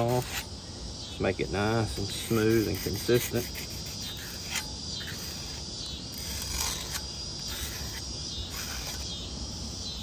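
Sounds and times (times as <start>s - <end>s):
sandpaper rubbing blade edge: 0.0s - 0.5s, 1.7s - 9.2s
crickets chirring: 0.0s - 10.0s.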